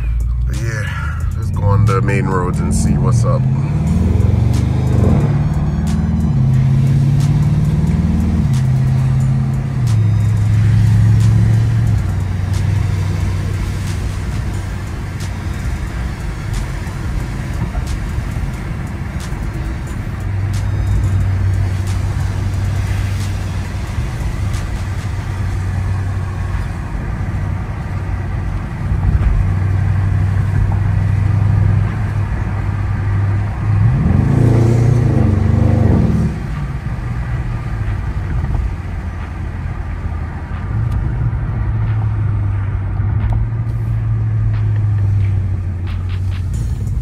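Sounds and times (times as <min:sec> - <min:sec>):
car engine drone: 0:00.0 - 0:47.0
engine revving: 0:00.0 - 0:47.0.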